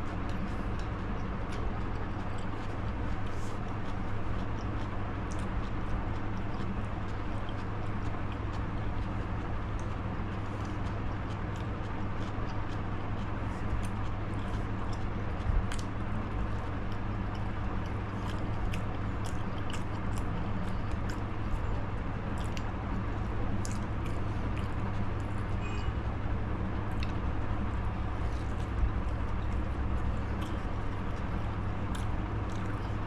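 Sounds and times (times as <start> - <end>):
low background hum: 0.0 - 33.0
person chewing crunchy snacks: 0.1 - 25.8, 26.9 - 33.0.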